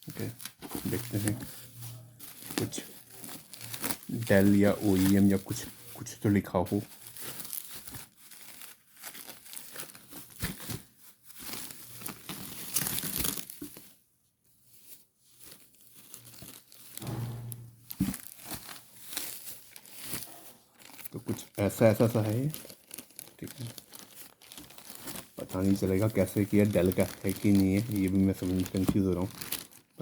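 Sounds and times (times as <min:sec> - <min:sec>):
packaging crinkling and rustling: 0:00.0 - 0:14.0, 0:14.6 - 0:30.0.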